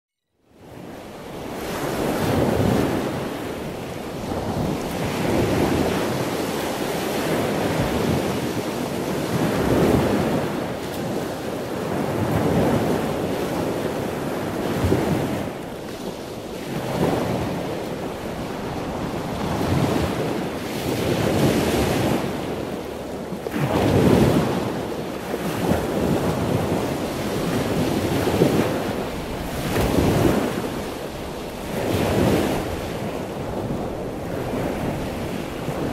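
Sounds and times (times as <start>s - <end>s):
wind: 0.2s - 35.9s
sea surf breaking on shore: 0.6s - 35.9s.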